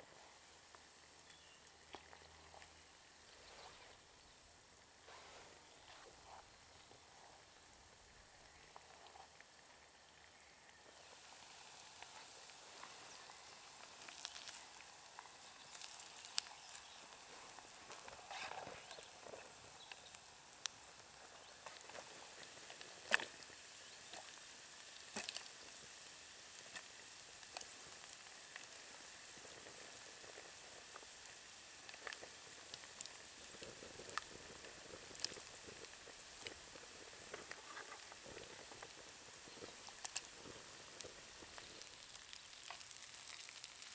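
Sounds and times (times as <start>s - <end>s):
potatoes sizzling in hot oil: 0.0s - 43.9s
oil crackling and popping: 0.4s - 5.0s, 5.6s - 43.9s.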